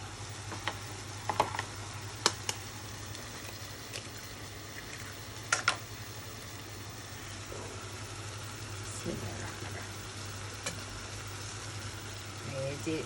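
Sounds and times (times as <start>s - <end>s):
sauce simmering: 0.0s - 13.0s.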